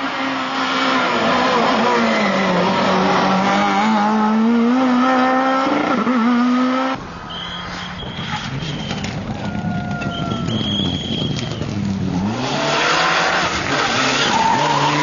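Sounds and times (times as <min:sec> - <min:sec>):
rally car engine revving: 0:00.0 - 0:07.0, 0:08.2 - 0:15.0.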